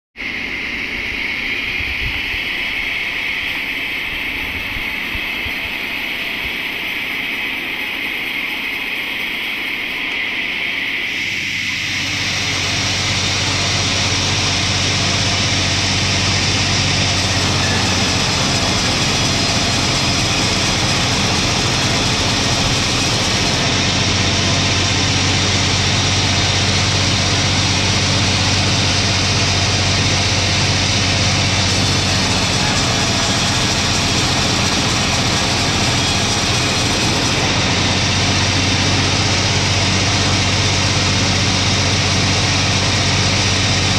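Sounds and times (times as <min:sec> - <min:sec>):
engine-driven saw cutting log: 0:00.2 - 0:43.9.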